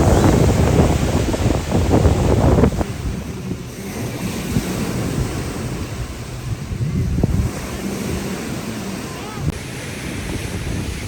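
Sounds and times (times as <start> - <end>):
lake waves washing in: 0.0 - 11.0
wind buffeting microphone: 0.0 - 11.0.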